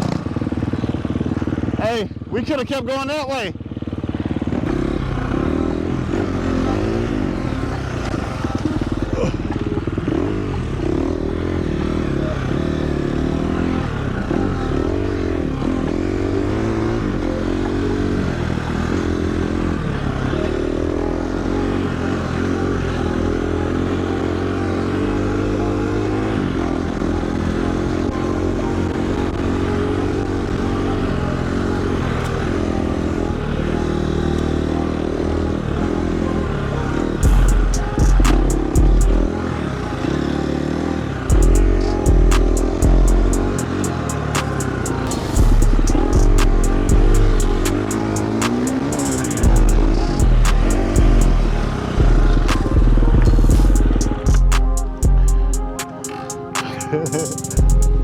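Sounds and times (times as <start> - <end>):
dirt bike engine revving: 3.6 - 58.0.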